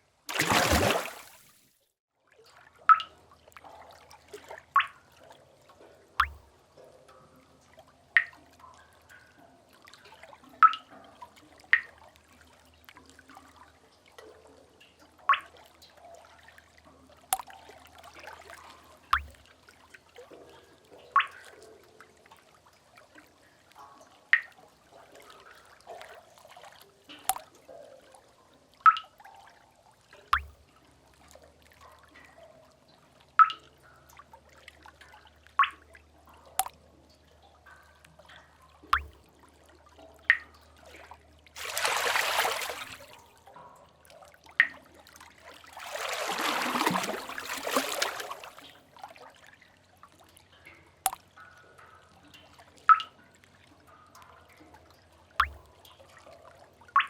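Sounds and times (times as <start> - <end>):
faint trickling water: 0.0 - 57.0
water drops plinking in cave: 2.7 - 48.9, 50.3 - 57.0.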